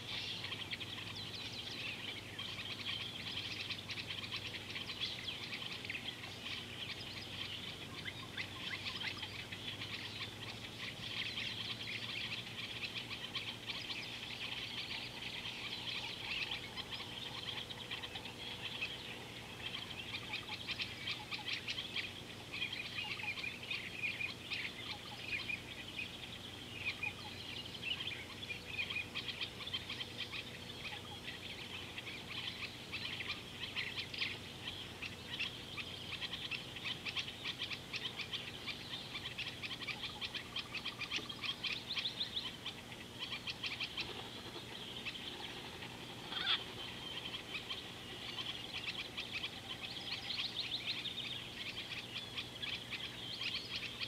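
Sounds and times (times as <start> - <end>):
chorus of chirping birds: 0.0 - 54.0.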